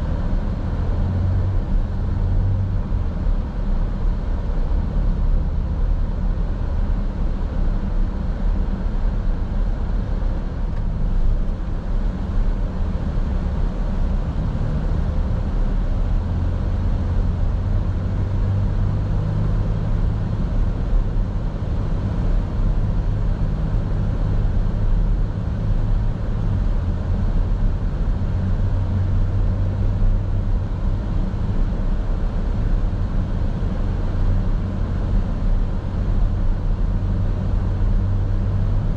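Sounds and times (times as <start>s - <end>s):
car engine and road drone: 0.0s - 38.9s.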